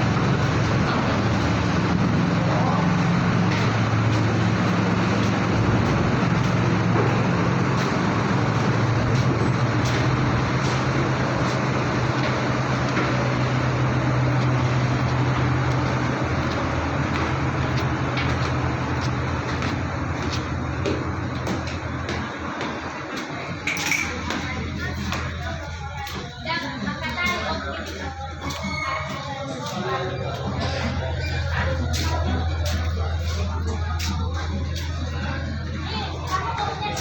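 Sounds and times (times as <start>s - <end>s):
constant wash of noise: 0.0s - 37.0s
heavy diesel engines droning: 0.0s - 37.0s.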